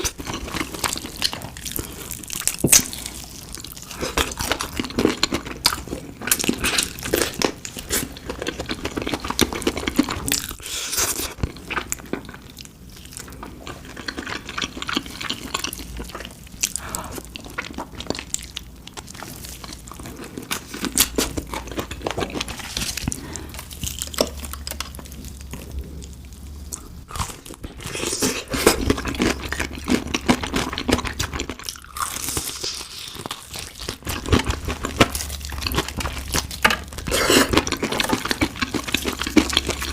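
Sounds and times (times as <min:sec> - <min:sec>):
crunching and chewing fried chicken: 0:00.0 - 0:39.9.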